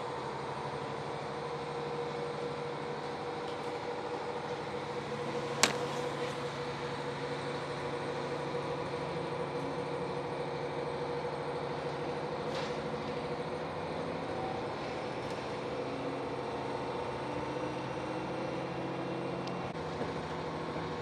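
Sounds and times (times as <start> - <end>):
train engine hum: 0.0 - 21.0.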